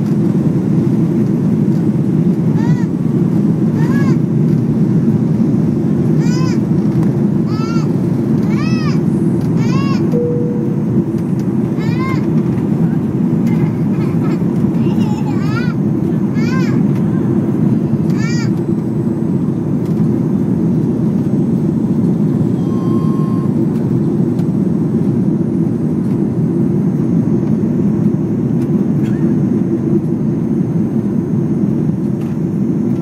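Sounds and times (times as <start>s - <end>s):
jet cabin engine roar: 0.0s - 33.0s.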